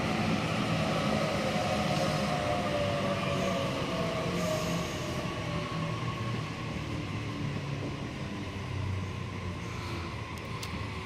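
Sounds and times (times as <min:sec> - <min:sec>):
electric train rumbling to a stop: 0:00.0 - 0:11.0.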